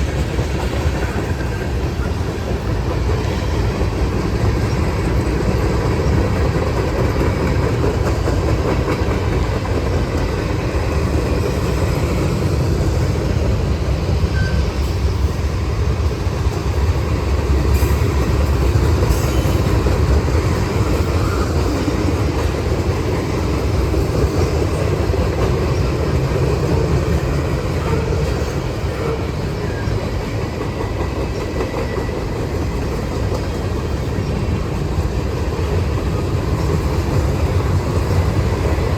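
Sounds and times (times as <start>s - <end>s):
freight train wheels rumbling on rails: 0.0s - 38.9s.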